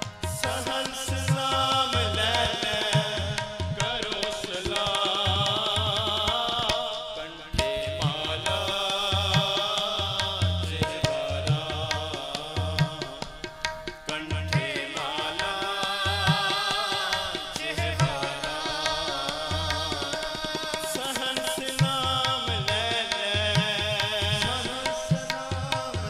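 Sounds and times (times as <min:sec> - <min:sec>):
harmonium chords: 0:00.0 - 0:26.0
tabla strokes: 0:00.0 - 0:26.0.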